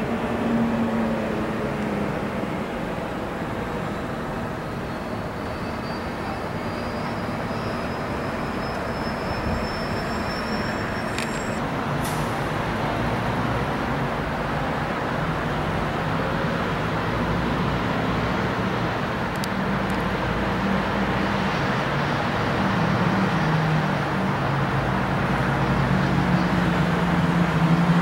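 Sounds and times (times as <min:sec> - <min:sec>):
distant traffic hum: 0:00.0 - 0:28.0.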